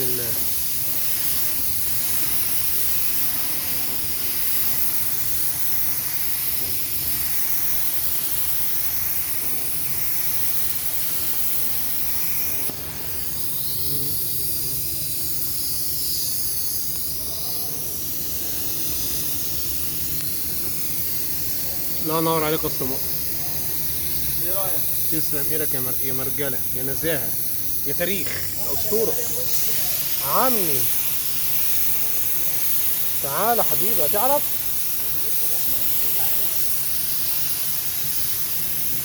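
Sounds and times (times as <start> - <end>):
paint spray gun hissing: 0.0 - 39.0.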